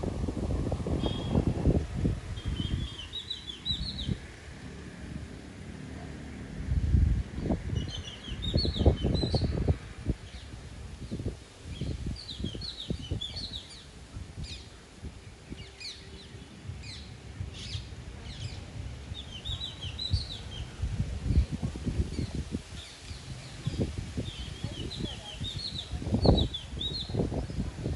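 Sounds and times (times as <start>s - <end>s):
wind gusting over microphone: 0.0s - 27.9s.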